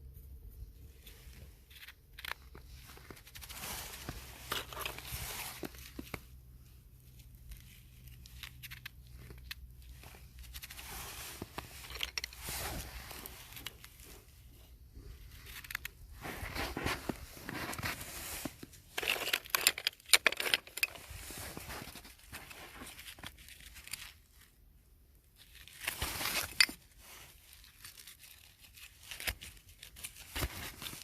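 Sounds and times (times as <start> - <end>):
crinkling and rustling: 0.0 - 31.0.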